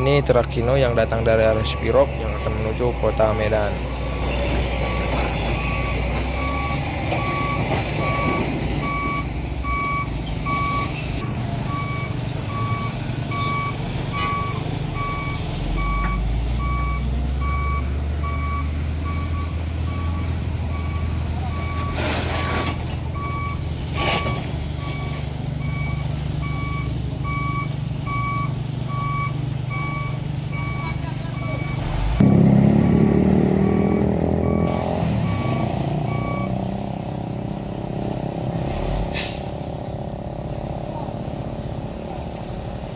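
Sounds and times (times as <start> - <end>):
truck engine running: 0.0 - 42.9
truck reversing alarm beeping: 0.0 - 42.9.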